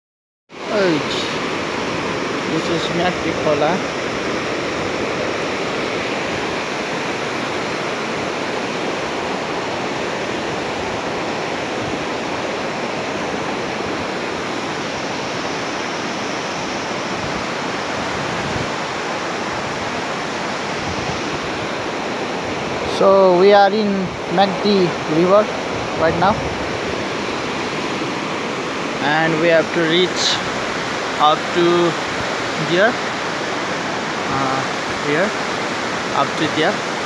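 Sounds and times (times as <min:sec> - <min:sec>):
river rapids rushing over rocks: 0:00.6 - 0:37.0.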